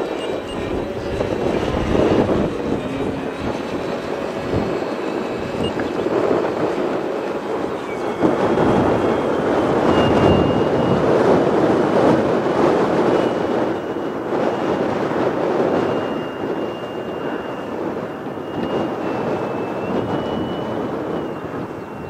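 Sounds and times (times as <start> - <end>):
model plane motor whine: 0.0 - 22.0
wind buffeting microphone: 0.0 - 22.0.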